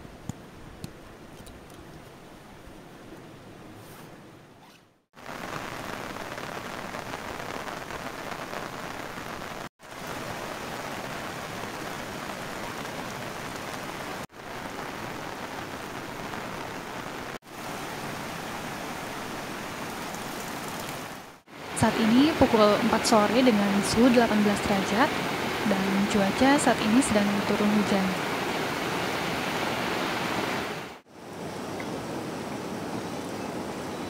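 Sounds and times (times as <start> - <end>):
steady rain falling: 5.2 - 34.0.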